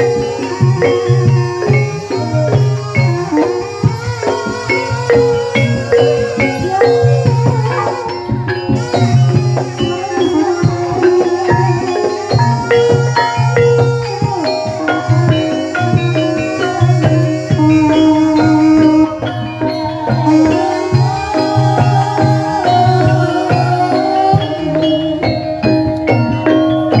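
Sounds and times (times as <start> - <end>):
gamelan metal keys and gongs: 0.0 - 27.0
steady drum strokes: 0.0 - 27.0.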